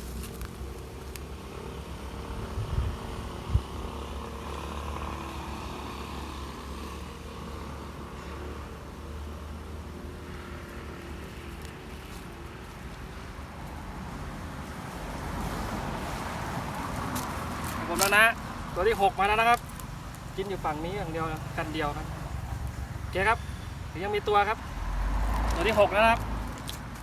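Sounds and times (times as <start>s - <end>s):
traffic engine rumble: 0.0s - 27.0s.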